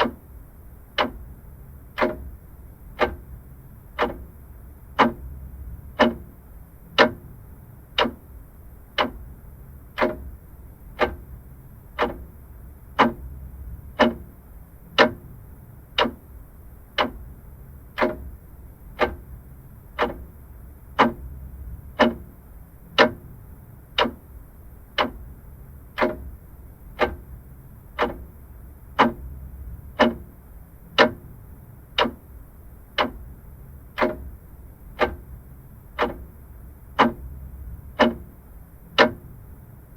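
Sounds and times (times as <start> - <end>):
clock ticking: 0.0 - 0.3, 0.9 - 7.3, 7.9 - 9.3, 9.9 - 17.3, 18.0 - 39.6.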